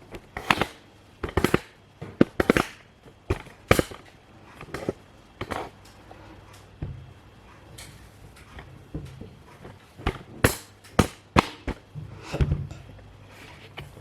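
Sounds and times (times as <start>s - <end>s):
handling knocks and clicks: 0.0s - 14.0s.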